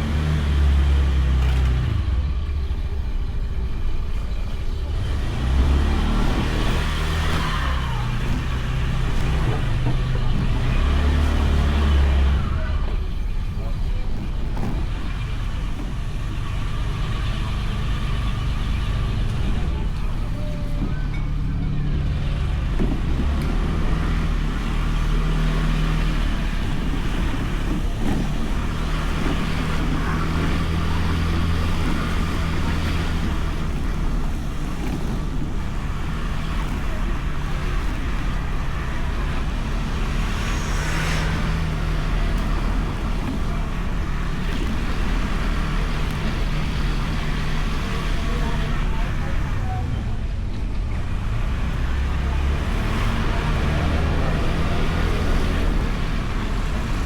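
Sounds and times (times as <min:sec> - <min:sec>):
road and wind noise: 0:00.0 - 0:57.0
scooter engine running: 0:00.0 - 0:57.0.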